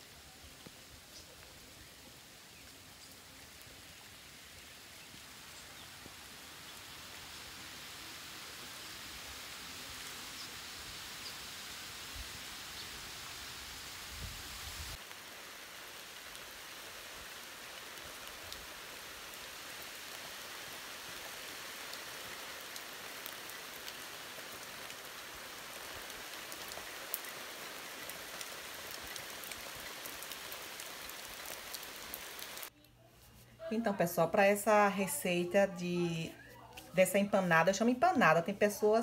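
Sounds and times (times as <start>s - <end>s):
rain falling on leaves: 0.0s - 32.7s.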